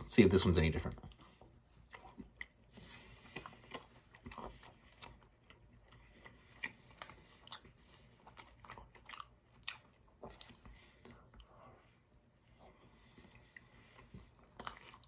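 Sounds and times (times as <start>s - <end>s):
chewing with mouth clicks: 0.9s - 15.0s.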